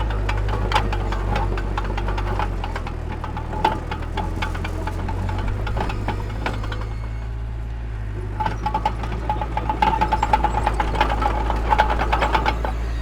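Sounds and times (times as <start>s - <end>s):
diesel engine rumbling: 0.0s - 13.0s
metallic clanks and squeaks: 0.0s - 13.0s.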